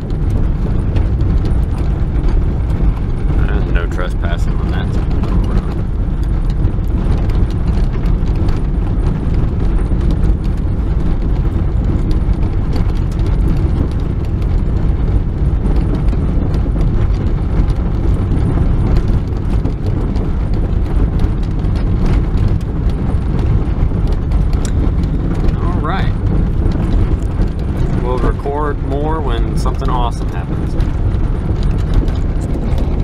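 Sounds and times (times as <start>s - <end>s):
car engine running: 0.0s - 33.0s
stones crackling and popping: 0.0s - 33.0s
tyres rumbling on gravel: 0.0s - 33.0s.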